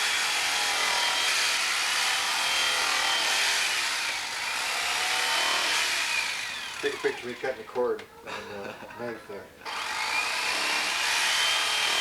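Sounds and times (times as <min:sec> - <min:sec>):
electric carving knife buzzing: 0:00.0 - 0:07.6, 0:09.7 - 0:12.0.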